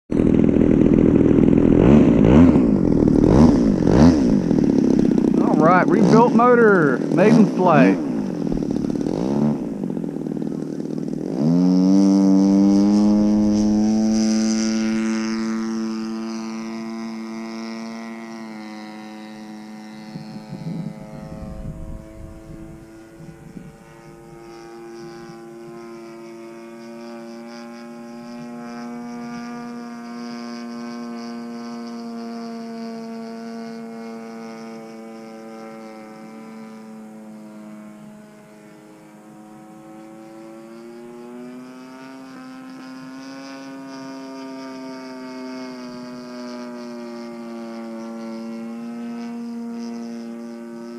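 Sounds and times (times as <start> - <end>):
model plane engine revving: 0.1 - 50.9.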